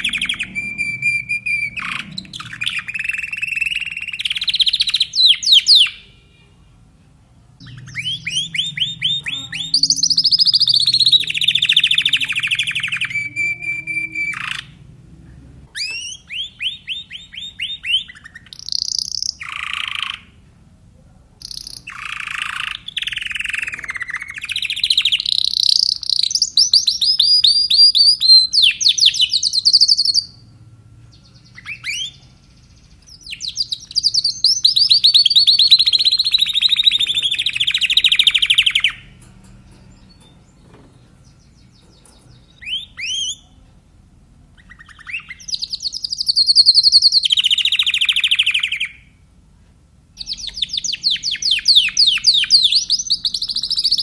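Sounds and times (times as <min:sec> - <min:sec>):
canary singing trills: 0:00.0 - 0:06.8, 0:07.6 - 0:20.4, 0:21.4 - 0:43.7, 0:44.5 - 0:49.3, 0:50.2 - 0:54.0.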